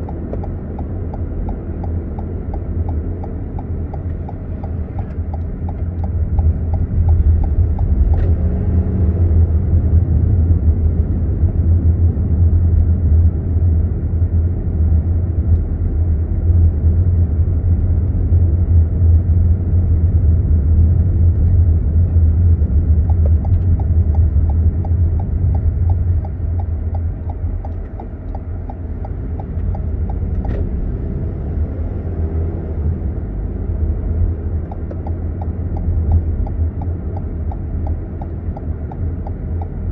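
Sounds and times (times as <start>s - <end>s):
car road and engine rumble: 0.0s - 39.9s
turn signal ticking: 0.0s - 39.9s.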